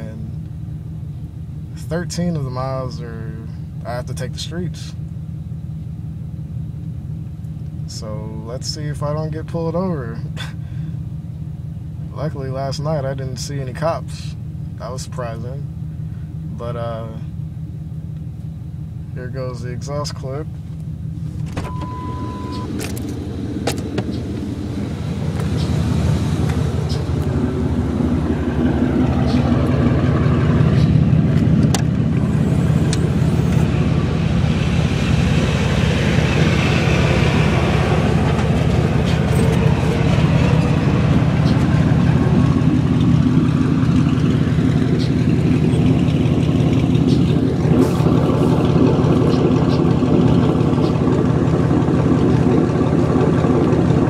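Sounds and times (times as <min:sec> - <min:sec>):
loud car engine: 0:00.0 - 0:54.0.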